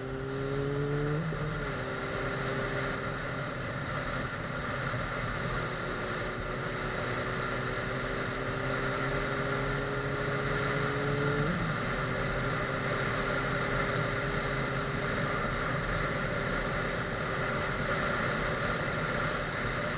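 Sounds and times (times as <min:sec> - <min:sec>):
wind and road noise: 0:00.0 - 0:19.9.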